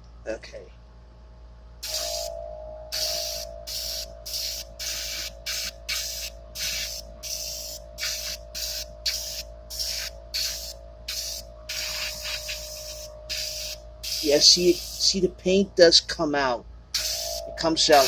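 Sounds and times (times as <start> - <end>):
airbrush spraying: 1.8 - 15.3, 17.0 - 18.0
air compressor hum: 1.8 - 16.2, 16.8 - 18.0.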